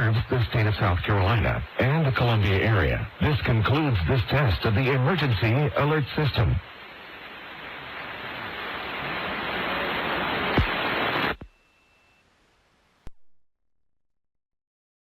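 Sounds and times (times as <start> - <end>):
radio static hiss: 0.0 - 13.1.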